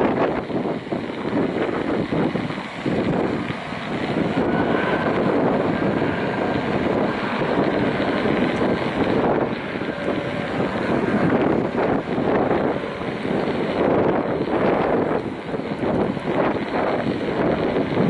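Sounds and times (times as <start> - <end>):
distant jet engines roaring: 0.0 - 18.0.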